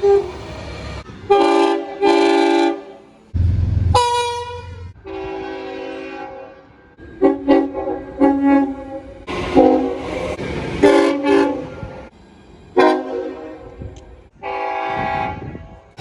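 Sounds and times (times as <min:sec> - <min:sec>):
train rumbling: 0:00.0 - 0:16.0
locomotive horn blasts: 0:01.3 - 0:03.1, 0:03.9 - 0:12.1, 0:12.8 - 0:16.0.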